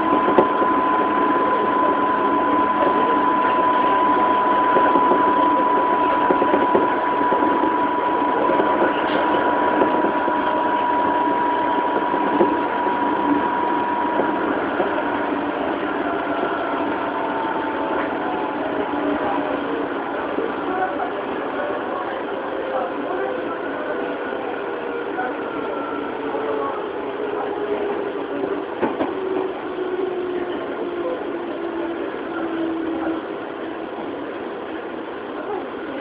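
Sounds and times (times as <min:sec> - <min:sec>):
electric train motor whine: 0:00.0 - 0:36.0
wheel and rail rumble: 0:00.0 - 0:36.0.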